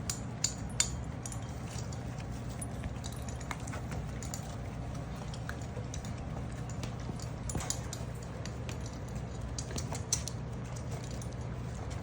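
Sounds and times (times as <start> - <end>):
puppies eating kibble: 0.0 - 12.0
steady low hum: 0.0 - 12.0.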